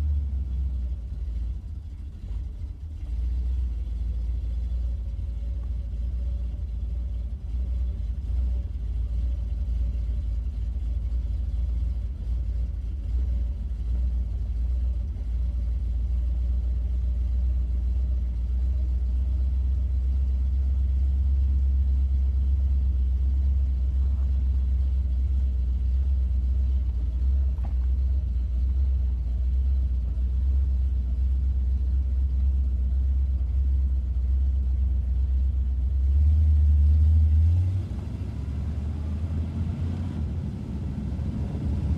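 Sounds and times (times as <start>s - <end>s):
car engine rumbling: 0.0s - 41.9s.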